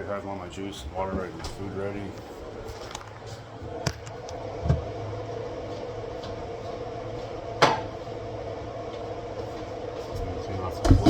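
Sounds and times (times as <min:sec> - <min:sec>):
appliance hum: 0:00.0 - 0:11.0.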